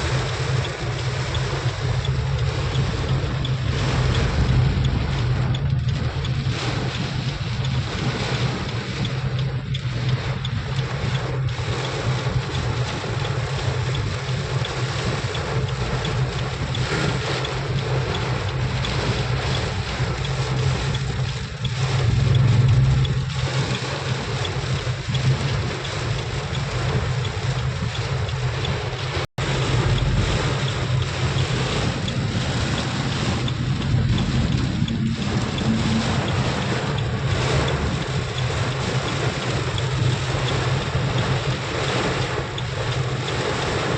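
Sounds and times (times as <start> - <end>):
heavy rain falling: 0.0 - 43.9
wind rumbling on microphone: 0.0 - 43.9.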